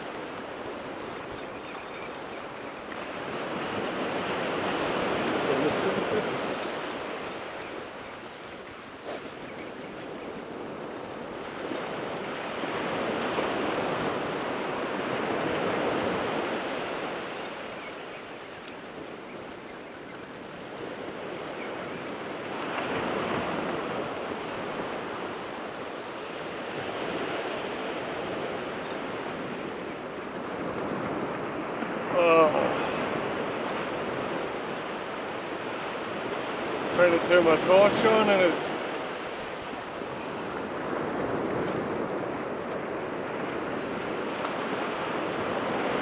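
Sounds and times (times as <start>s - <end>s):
waves breaking on a beach: 0.0s - 46.0s.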